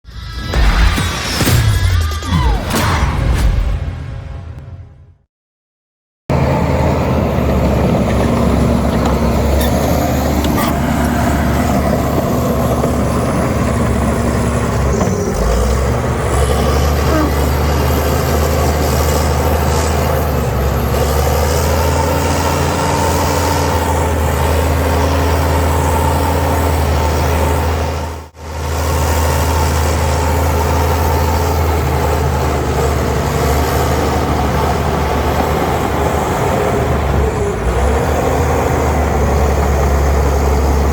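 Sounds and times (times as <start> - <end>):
heavy diesel engine drone: 6.3 - 40.9.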